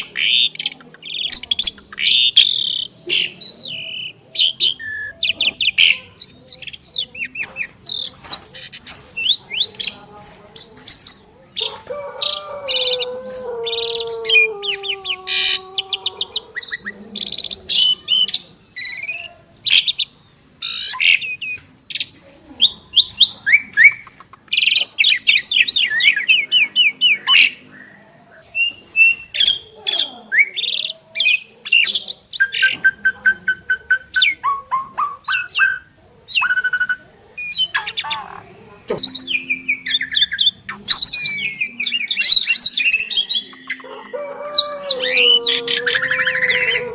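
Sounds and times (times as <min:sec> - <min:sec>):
starlings singing: 0:00.0 - 0:46.9.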